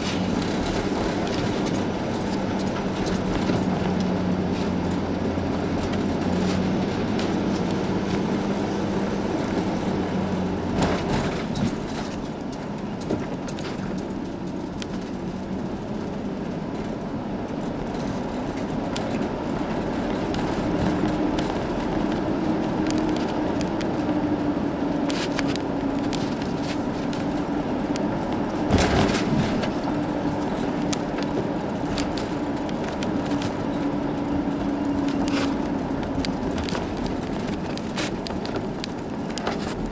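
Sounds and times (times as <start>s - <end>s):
car engine hum: 0.0s - 39.9s
road noise inside car: 0.0s - 39.9s.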